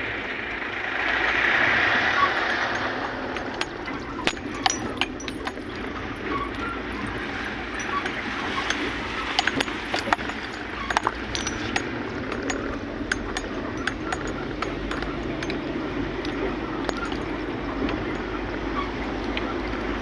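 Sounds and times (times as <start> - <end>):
vehicle rumbling: 0.0 - 20.0
loose things rattling: 1.6 - 20.0.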